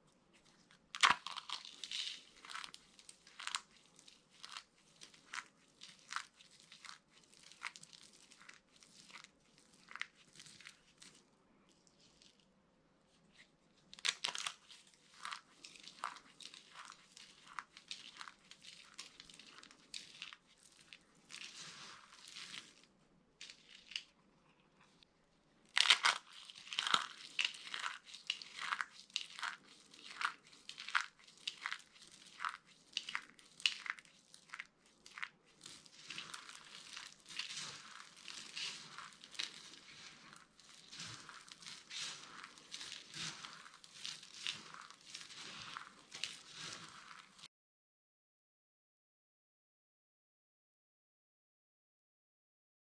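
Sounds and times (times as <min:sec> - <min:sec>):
soap being crushed: 0:00.3 - 0:12.4, 0:13.9 - 0:25.0, 0:25.6 - 0:47.5.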